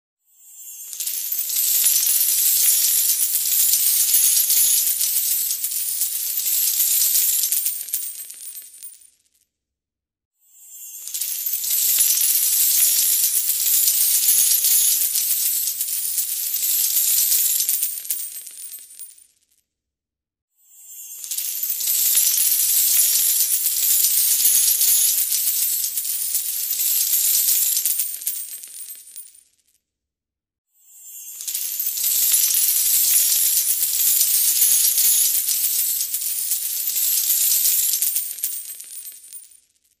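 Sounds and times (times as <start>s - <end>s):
metal coins falling and clinking: 0.5s - 9.4s, 10.8s - 19.6s, 21.0s - 29.5s, 31.0s - 40.0s.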